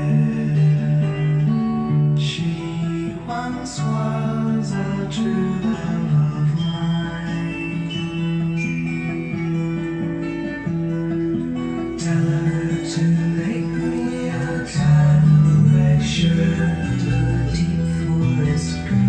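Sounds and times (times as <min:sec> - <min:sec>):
guitar music with bass line: 0:00.0 - 0:19.0.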